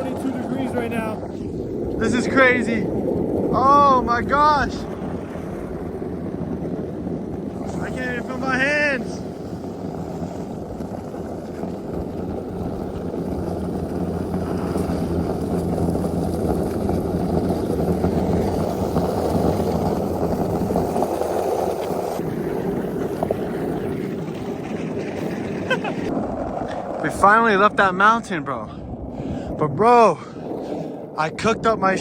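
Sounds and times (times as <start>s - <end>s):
skateboard wheels rolling on road: 0.0s - 32.0s.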